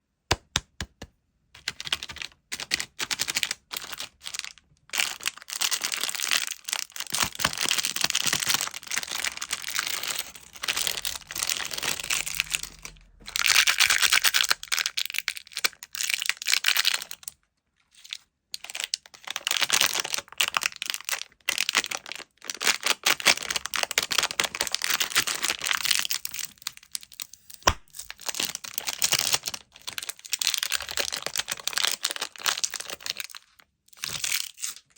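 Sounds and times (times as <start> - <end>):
plastic wrappers crinkling and tearing: 1.7 - 34.9.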